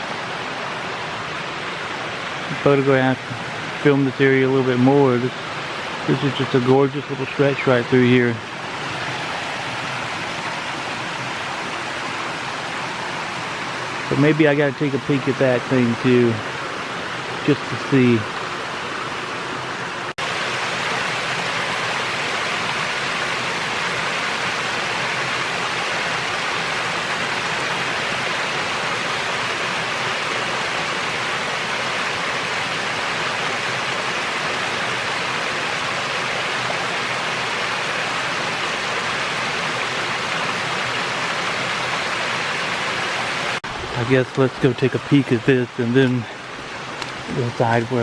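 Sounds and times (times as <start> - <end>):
water rushing over rocks: 0.0 - 48.0.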